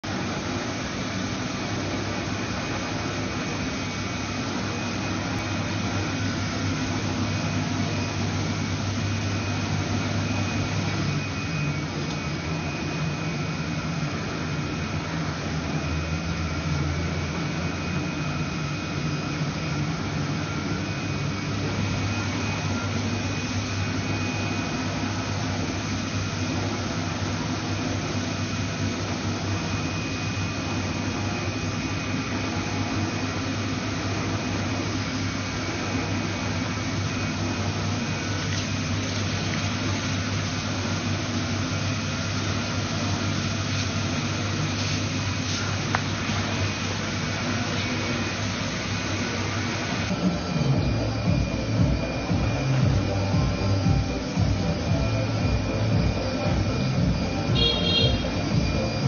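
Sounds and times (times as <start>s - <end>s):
faint high whine: 0.0s - 59.0s
printer mechanical hum: 0.0s - 59.0s.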